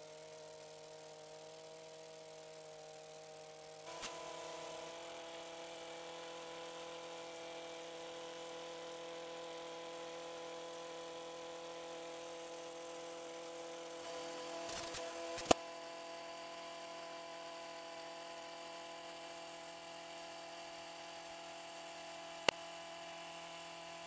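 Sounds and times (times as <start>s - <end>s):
power edger cutting turf: 0.0s - 24.0s.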